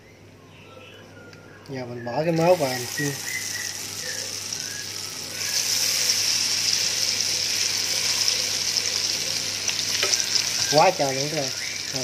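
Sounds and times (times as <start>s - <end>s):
batter frying in hot oil: 2.2s - 12.0s.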